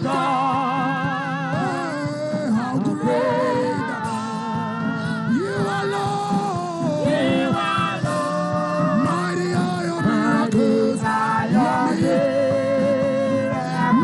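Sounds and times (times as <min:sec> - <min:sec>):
gospel choir singing: 0:00.0 - 0:14.0.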